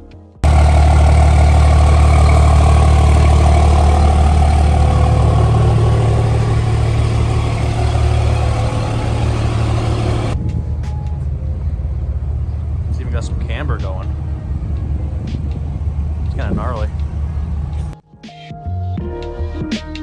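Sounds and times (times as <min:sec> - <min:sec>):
large truck engine running: 0:00.4 - 0:18.0.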